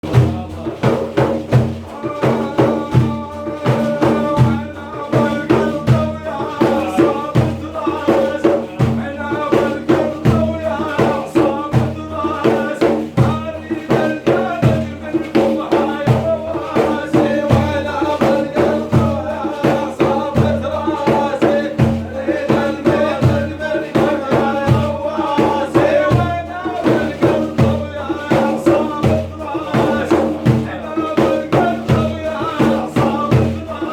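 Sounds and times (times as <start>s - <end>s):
frame drums beating: 0.0s - 33.9s
person singing religious chant: 0.0s - 33.9s.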